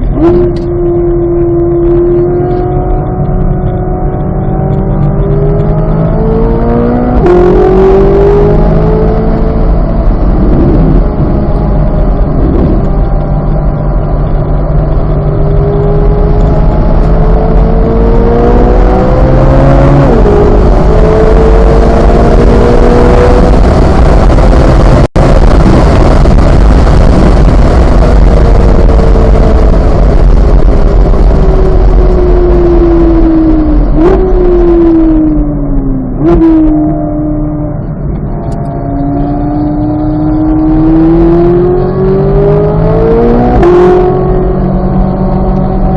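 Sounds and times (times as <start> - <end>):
car engine accelerating hard: 0.0 - 45.9
road and wind noise: 0.0 - 45.9.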